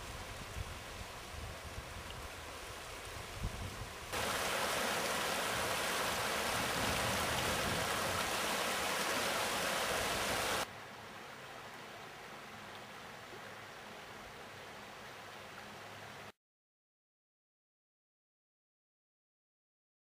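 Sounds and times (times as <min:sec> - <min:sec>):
stream water rushing: 0:00.0 - 0:16.3.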